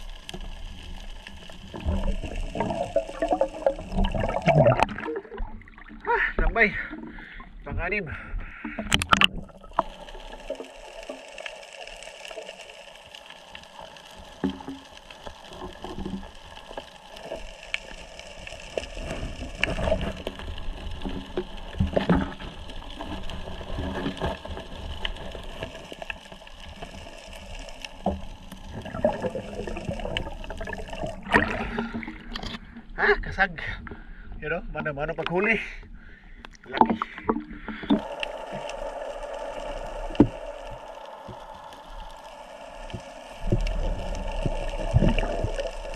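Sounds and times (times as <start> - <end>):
shallow water sloshing and splashing: 0.0 - 45.9.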